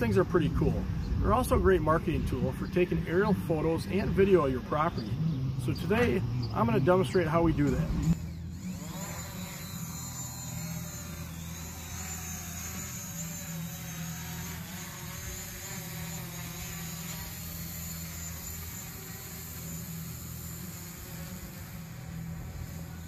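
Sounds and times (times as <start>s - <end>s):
drone propellers buzzing: 0.0s - 23.0s.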